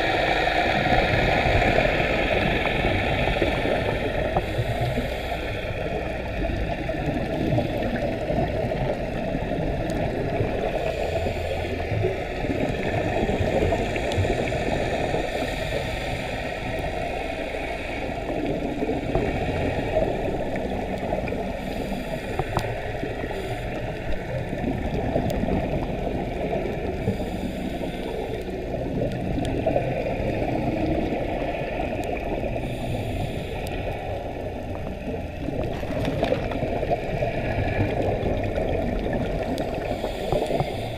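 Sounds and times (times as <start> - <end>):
muffled underwater rumble and gurgling: 0.0 - 40.9.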